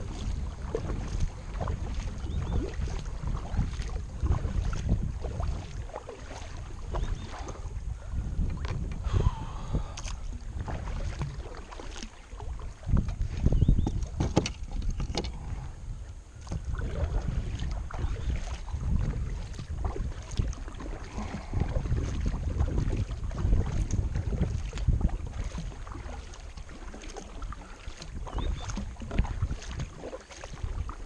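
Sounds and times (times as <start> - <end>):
paddle splashing in water: 0.0 - 31.0
wind rumble on microphone: 0.0 - 31.0.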